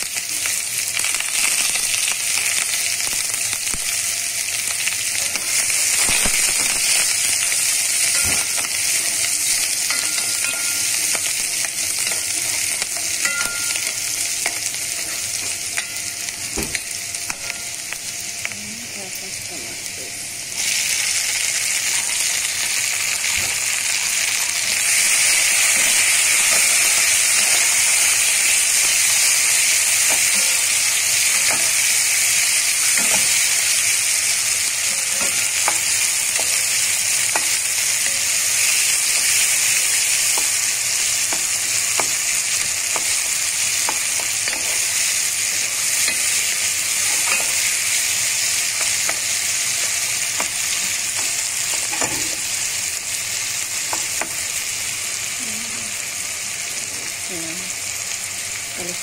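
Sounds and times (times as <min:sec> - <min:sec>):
vegetables sizzling in hot oil: 0:00.0 - 0:59.0.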